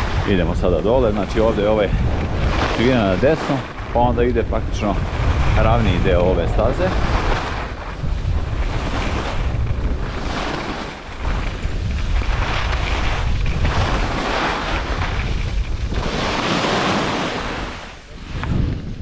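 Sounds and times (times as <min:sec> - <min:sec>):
skis scraping on snow: 0:00.0 - 0:19.0
wind buffeting microphone: 0:00.0 - 0:19.0.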